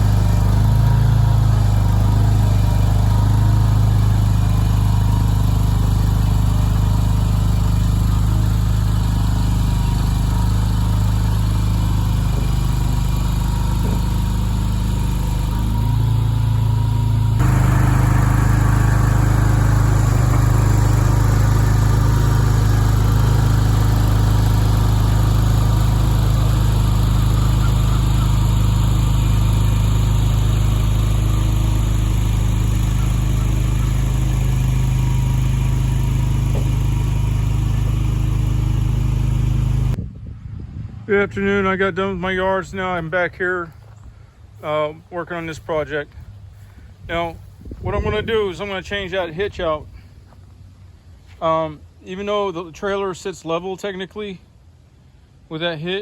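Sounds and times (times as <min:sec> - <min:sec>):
skid steer engine running: 0:00.0 - 0:40.0, 0:42.6 - 0:51.4.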